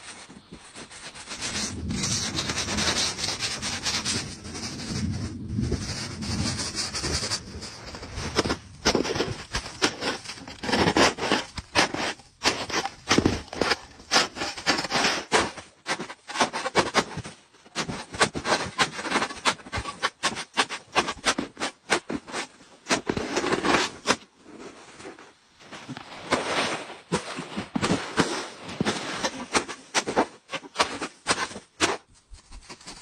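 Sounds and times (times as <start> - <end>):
snow shovel scraping packed snow: 0.0 - 33.0.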